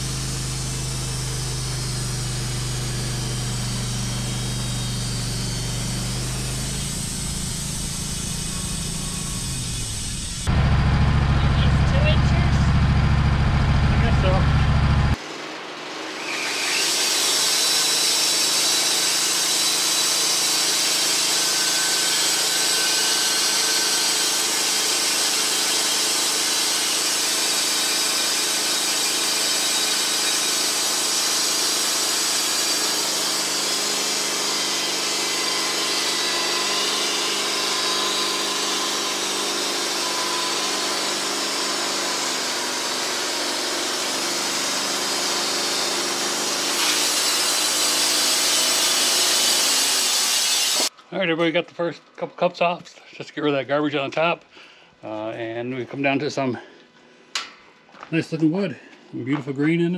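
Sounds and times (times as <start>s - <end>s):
bandsaw blade cutting log: 0.0s - 50.9s
sawmill motor running: 0.0s - 50.9s.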